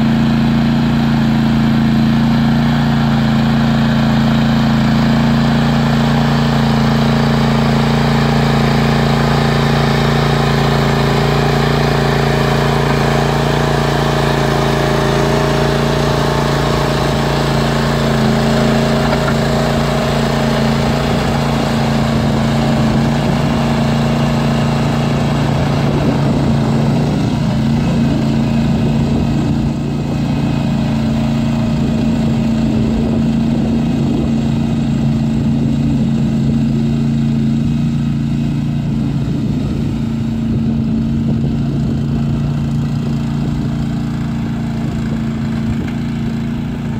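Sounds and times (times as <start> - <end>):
tractor engine running under load: 0.0 - 46.9.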